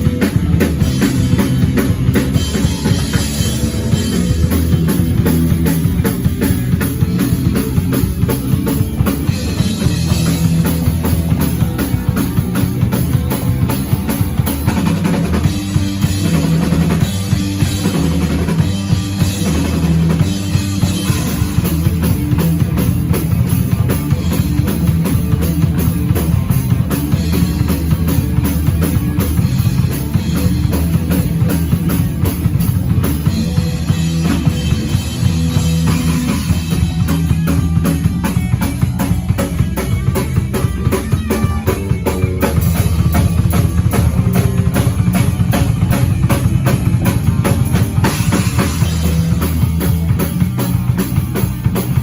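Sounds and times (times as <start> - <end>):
drum kit fast beat: 0.0 - 52.0
guitar and bass: 0.0 - 52.0.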